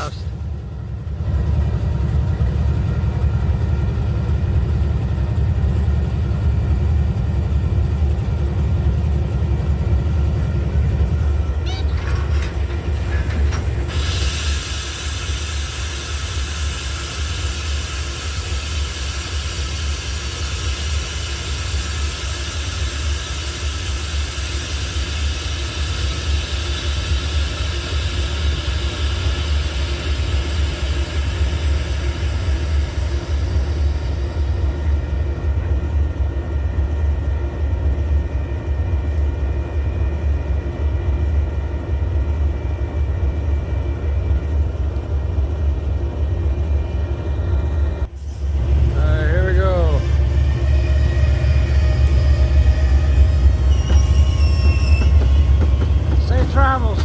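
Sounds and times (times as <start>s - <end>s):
freight train rumbling: 0.0s - 57.0s.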